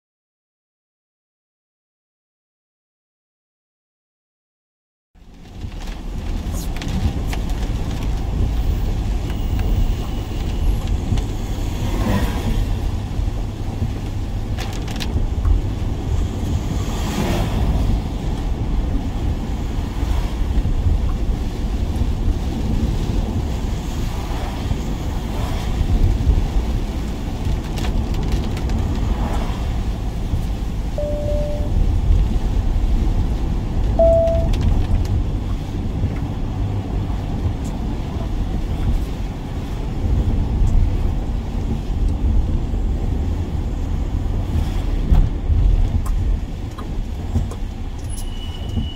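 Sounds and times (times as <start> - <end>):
road noise: 5.2 - 48.9
van engine rumble: 5.2 - 48.9.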